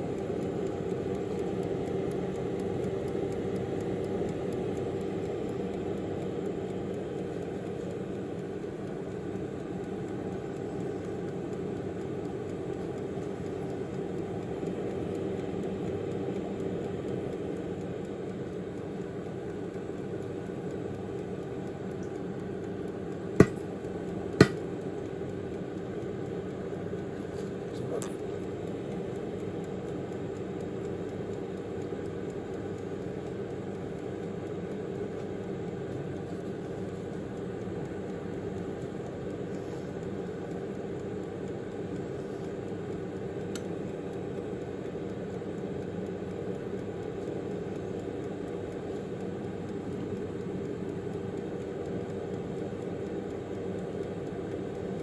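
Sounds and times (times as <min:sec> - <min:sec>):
air fryer fan whirring: 0:00.0 - 0:55.0.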